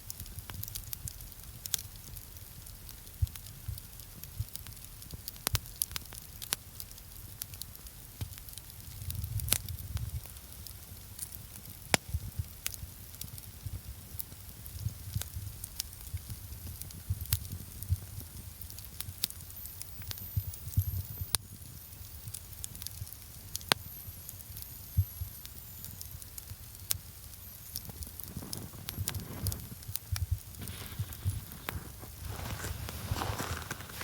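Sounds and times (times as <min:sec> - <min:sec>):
campfire crackling: 0:00.0 - 0:34.0
sharp pops of fire: 0:00.1 - 0:34.0.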